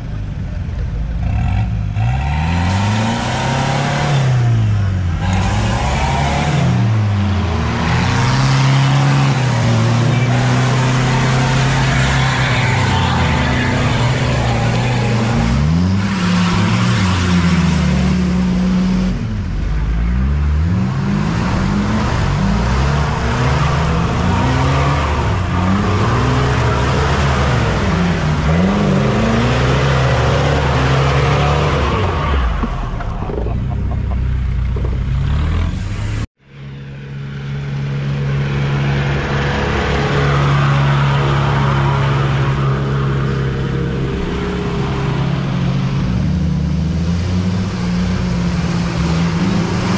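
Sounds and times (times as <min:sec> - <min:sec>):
off-road engines revving: 0:00.0 - 0:36.3, 0:37.0 - 0:49.9.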